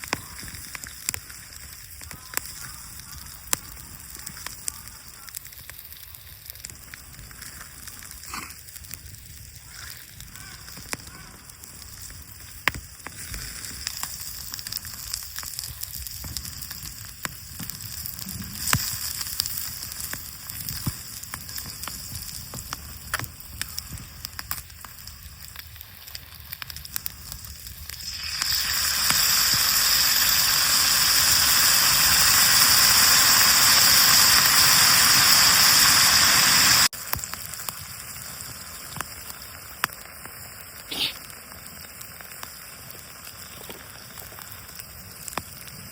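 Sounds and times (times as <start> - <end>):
campfire crackling and popping: 0.0 - 45.9
food sizzling: 0.0 - 45.9.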